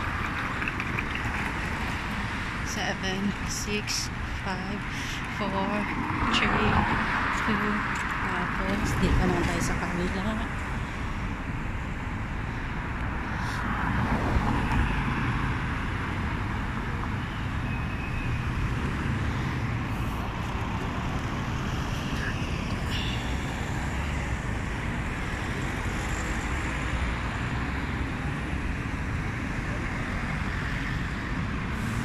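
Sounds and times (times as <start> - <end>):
cars passing on road: 0.0 - 32.0.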